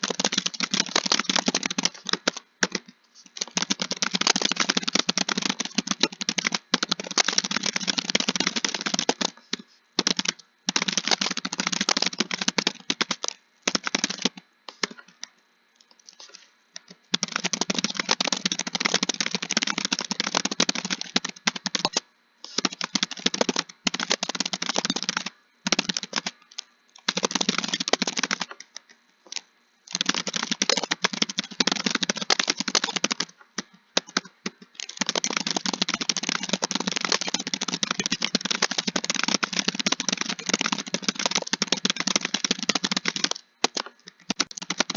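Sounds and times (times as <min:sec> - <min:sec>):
fast typing on keyboard: 0:00.0 - 0:15.2, 0:16.1 - 0:44.9.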